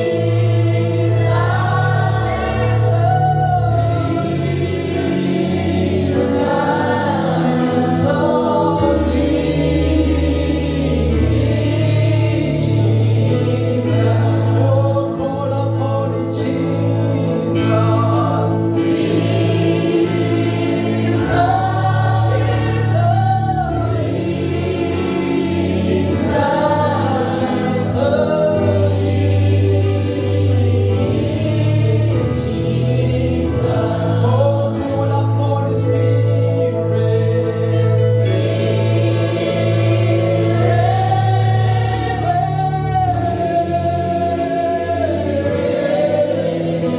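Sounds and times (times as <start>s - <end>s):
gospel choir singing: 0.0s - 46.9s
instrumental backing with bass: 0.0s - 46.9s.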